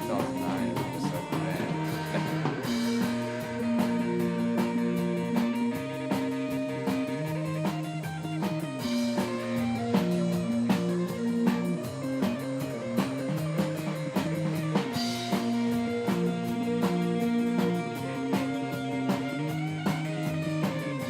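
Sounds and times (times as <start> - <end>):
drum kit beat: 0.0 - 21.0
guitar melody: 0.0 - 21.0.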